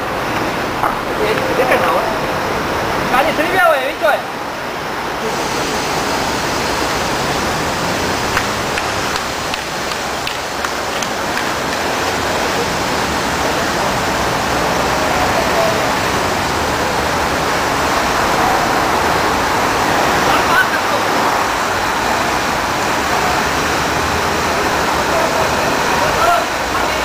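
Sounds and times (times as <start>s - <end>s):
loud rushing noise: 0.0s - 27.0s.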